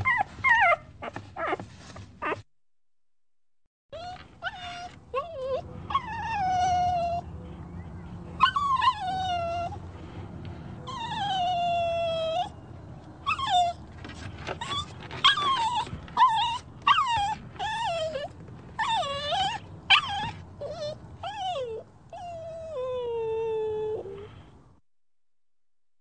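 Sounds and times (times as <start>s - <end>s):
dog whining and whimpering: 0.0s - 2.4s, 3.9s - 7.3s, 8.3s - 9.8s, 10.8s - 24.6s.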